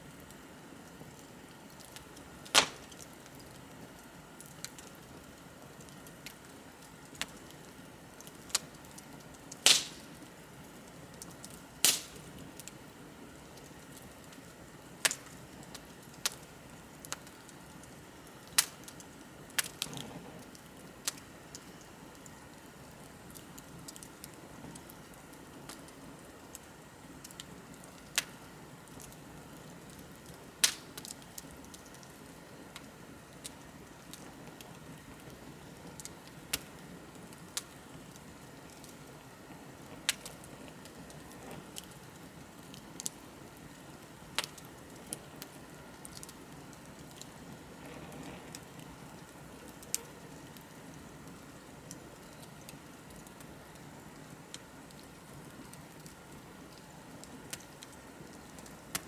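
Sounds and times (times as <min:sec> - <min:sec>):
burning wood crackling and popping: 0:00.0 - 0:59.0
bonfire flame rushing: 0:00.1 - 0:59.0.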